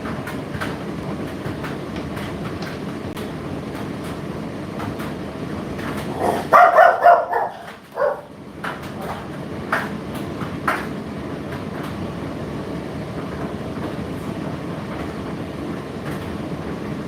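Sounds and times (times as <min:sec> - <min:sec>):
tumble dryer drum rumble: 0:00.0 - 0:17.0.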